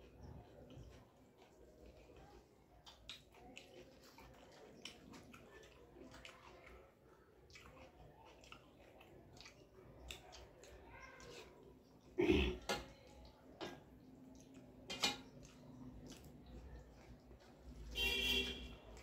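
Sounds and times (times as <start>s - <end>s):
faint chewing: 0.0s - 19.0s
fingers mixing rice on steel plate: 0.0s - 19.0s.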